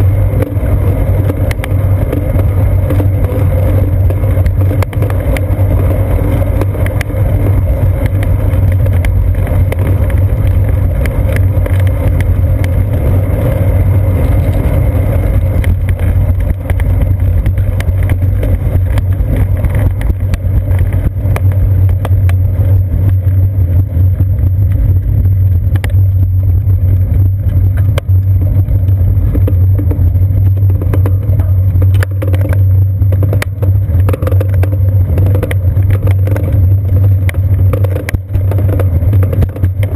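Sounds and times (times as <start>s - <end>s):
bicycle rattling over slab joints: 0.0s - 39.9s
bicycle rolling on concrete: 0.0s - 39.9s.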